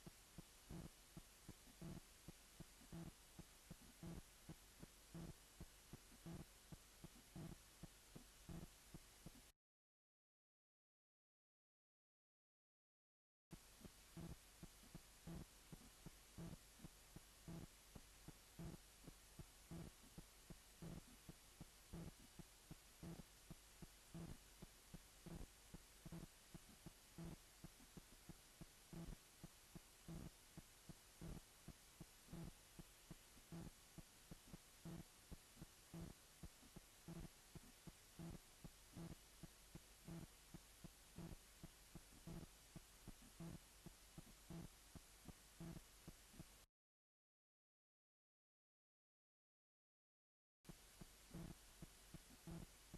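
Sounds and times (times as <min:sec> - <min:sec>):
fast heartbeat: 0:00.4 - 0:09.5, 0:13.6 - 0:46.6, 0:50.7 - 0:52.8.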